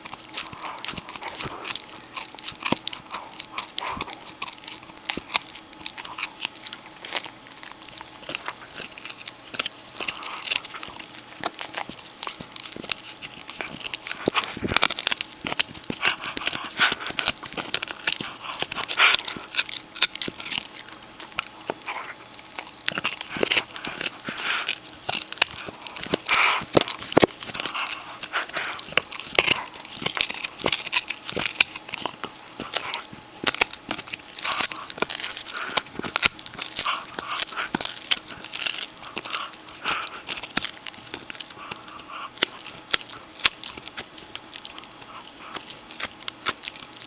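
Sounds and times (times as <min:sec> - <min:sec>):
puppy gnawing rawhide chew: 0:00.0 - 0:47.0.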